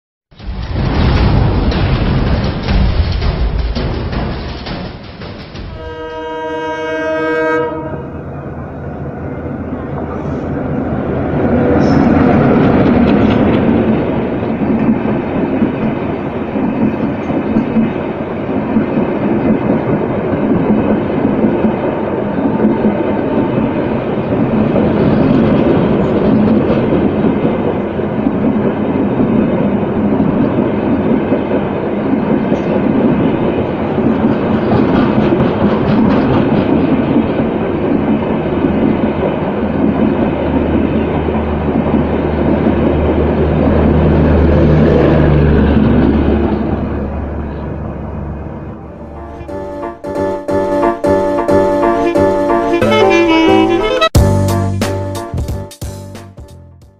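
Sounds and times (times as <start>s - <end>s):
train running on rails: 0.3s - 55.6s.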